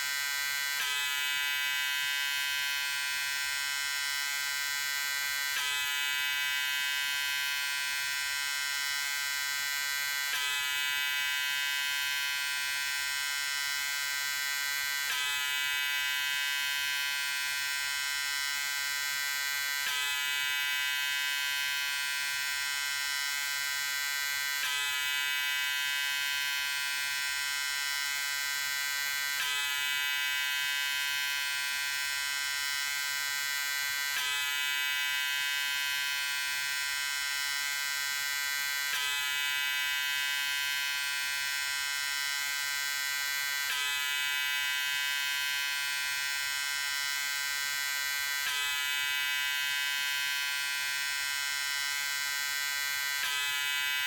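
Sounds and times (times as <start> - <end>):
electric razor buzzing: 0.0 - 54.0.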